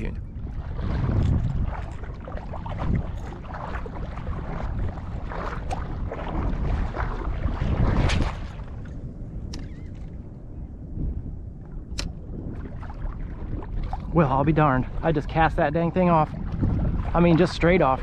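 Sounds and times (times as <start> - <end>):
water lapping: 0.0 - 10.2, 11.6 - 18.0
wind gusting on microphone: 0.0 - 18.0.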